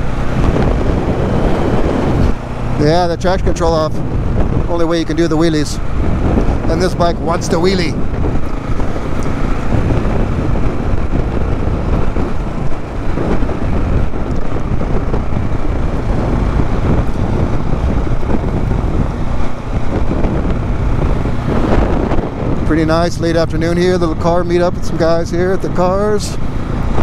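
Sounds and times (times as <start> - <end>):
motorcycle engine running steadily: 0.0 - 27.0
wind rushing on microphone: 0.0 - 27.0.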